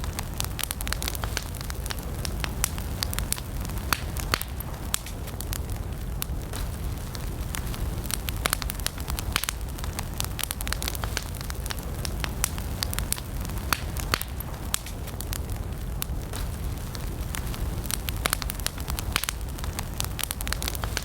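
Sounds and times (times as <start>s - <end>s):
burning wood crackling and popping: 0.0s - 21.0s
wood fire burning: 0.0s - 21.0s.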